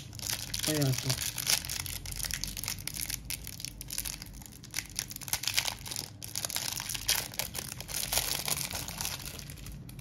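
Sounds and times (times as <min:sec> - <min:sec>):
wrapper crinkling: 0:00.0 - 0:10.0.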